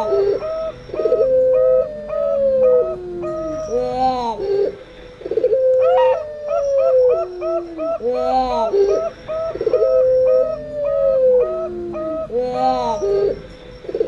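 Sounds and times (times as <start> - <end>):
long descending dove coo: 0.0 - 14.0.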